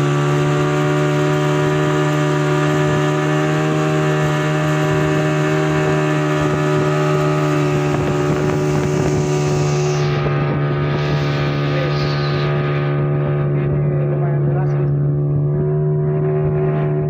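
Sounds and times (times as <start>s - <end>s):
outboard motor droning: 0.0s - 17.0s
water rushing along hull: 0.0s - 17.0s.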